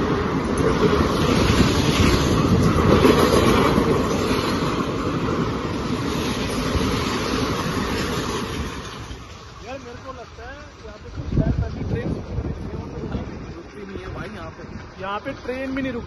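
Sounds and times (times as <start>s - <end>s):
passenger train passing at speed: 0.0s - 16.0s.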